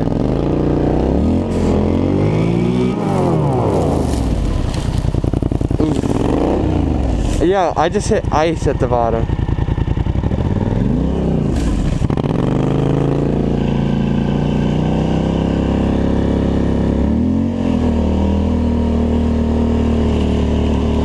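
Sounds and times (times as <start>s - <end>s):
atv engine running under load: 0.0s - 21.0s.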